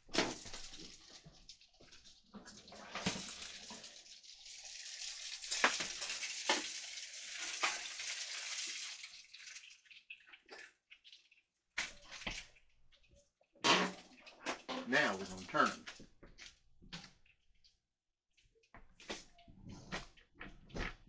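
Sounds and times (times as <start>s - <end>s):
oil sizzling on baking tray: 0.0s - 17.3s.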